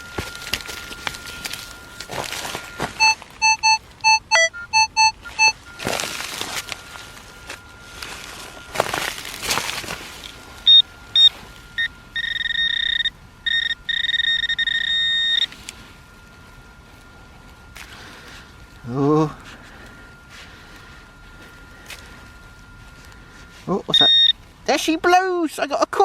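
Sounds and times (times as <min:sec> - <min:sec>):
metal detector beeps: 0:00.0 - 0:15.9, 0:16.9 - 0:25.2
faint steady tone: 0:00.0 - 0:26.0.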